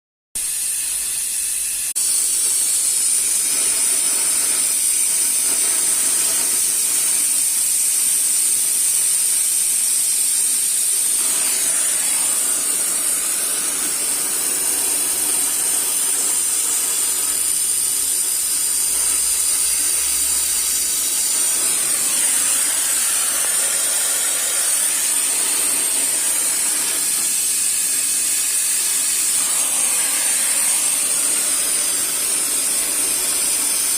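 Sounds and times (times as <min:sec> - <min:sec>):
welding torch flame hissing: 0:00.4 - 0:33.9.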